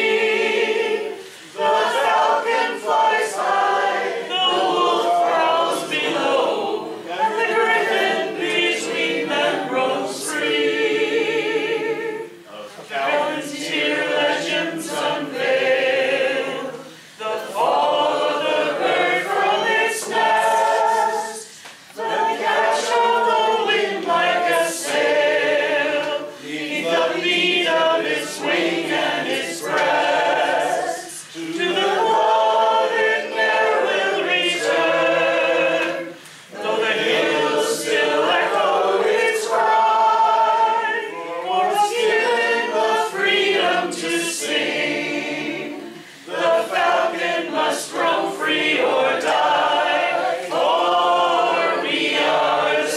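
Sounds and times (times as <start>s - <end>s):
group singing unaccompanied: 0.0s - 52.9s.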